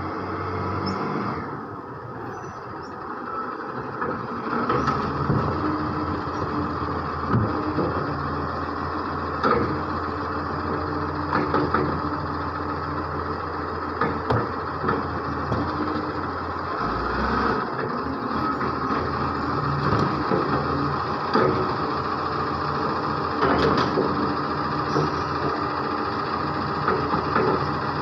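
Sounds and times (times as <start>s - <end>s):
garbage truck engine running: 0.0s - 28.0s.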